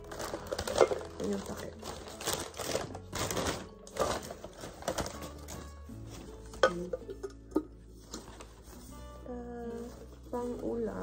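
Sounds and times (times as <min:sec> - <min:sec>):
paper packing rustling: 0:00.0 - 0:06.6, 0:08.0 - 0:10.9
soft background music: 0:00.0 - 0:11.0.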